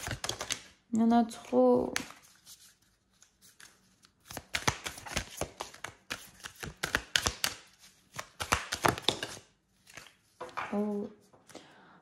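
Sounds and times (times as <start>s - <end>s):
cards being shuffled: 0.0s - 0.8s, 1.4s - 11.6s.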